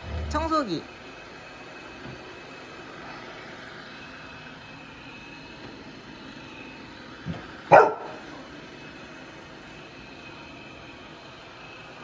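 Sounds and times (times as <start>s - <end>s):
robot vacuum cleaner whirring: 0.0s - 11.7s.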